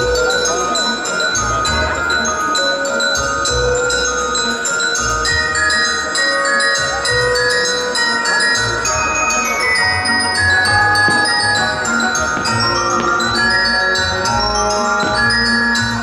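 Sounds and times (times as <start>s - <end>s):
bells and chimes ringing: 0.0s - 16.0s.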